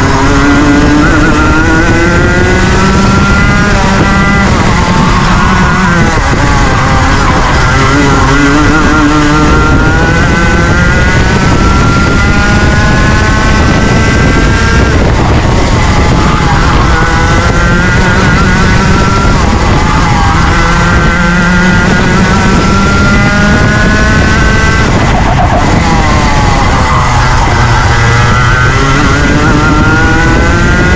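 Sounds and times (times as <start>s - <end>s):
kart engine accelerating: 0.0s - 30.9s.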